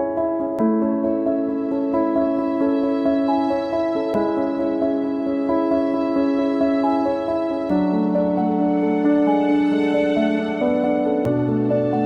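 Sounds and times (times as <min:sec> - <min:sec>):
soft slow piano notes: 0:00.0 - 0:12.0.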